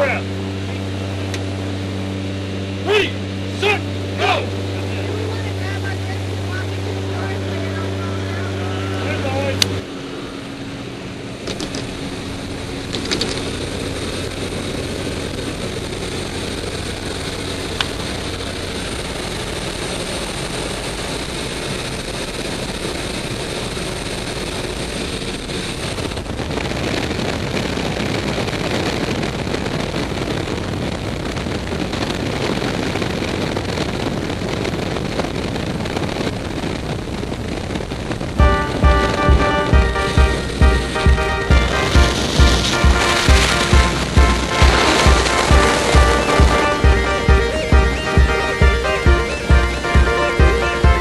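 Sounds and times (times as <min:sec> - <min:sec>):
wind roaring over microphone: 0:00.0 - 0:51.0.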